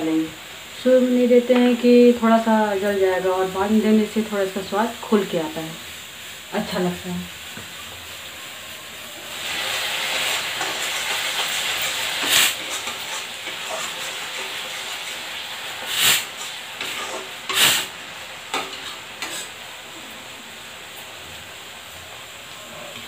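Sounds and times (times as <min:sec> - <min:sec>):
paste sizzling in oil: 0:00.0 - 0:23.0.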